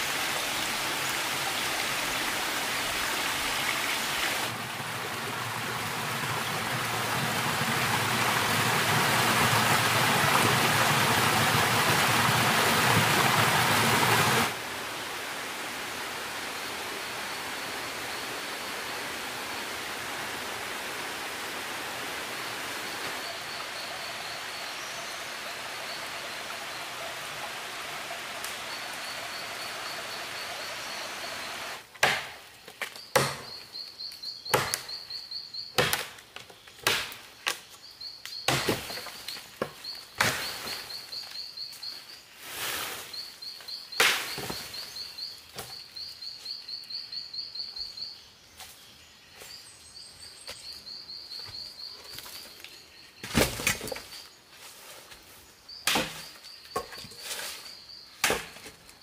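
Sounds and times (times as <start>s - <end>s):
even hiss-like noise: 0.0s - 31.9s, 38.8s - 59.0s.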